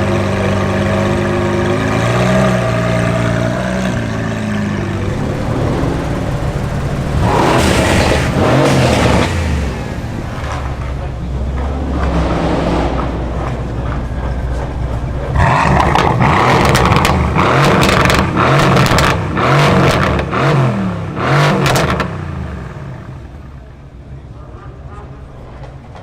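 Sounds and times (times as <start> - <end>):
exhaust crackles: 0.0 - 24.2
car engine idling and revving: 0.0 - 26.0.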